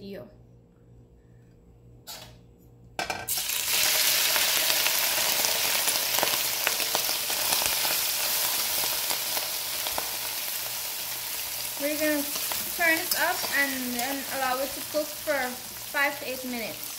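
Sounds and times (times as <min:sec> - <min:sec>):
fish sizzling in hot oil: 0:03.3 - 0:16.9.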